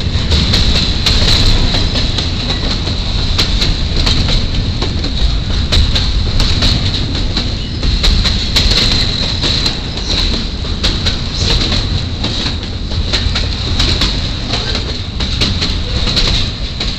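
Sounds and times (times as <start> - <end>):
train cars rumbling past: 0.0 - 16.9
wheels clicking over rail joints: 0.0 - 16.9.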